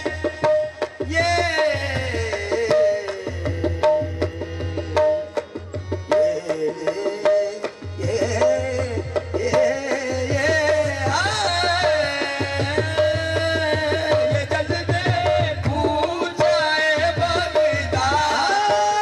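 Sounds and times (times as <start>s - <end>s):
harmonium: 0.0s - 19.0s
tabla drum strokes: 0.0s - 19.0s.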